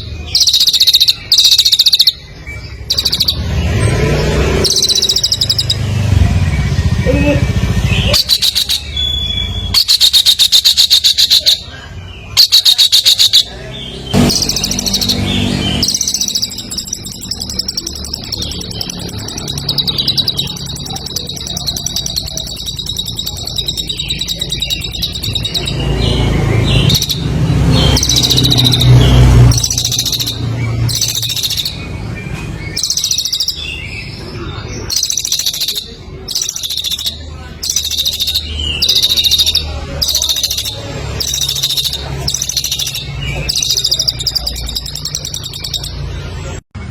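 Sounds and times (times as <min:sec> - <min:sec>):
songbird singing fast trills: 0:00.0 - 0:46.3.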